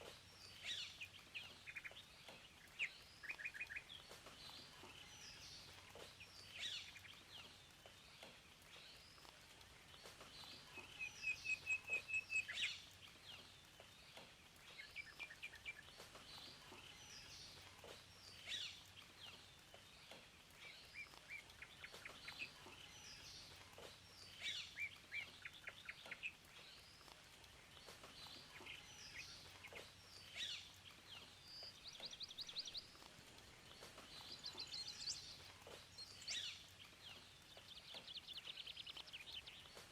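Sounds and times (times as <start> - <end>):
birds chirping and singing: 0.0 - 39.9
faint steady hiss: 0.0 - 39.9.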